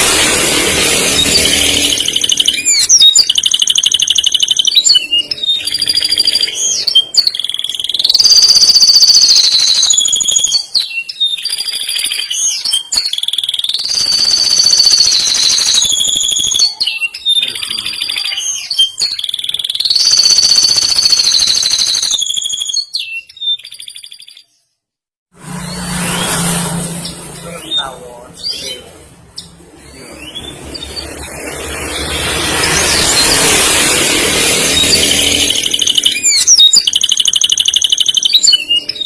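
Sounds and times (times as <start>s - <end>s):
canary singing trills: 1.2s - 24.7s, 27.0s - 39.0s.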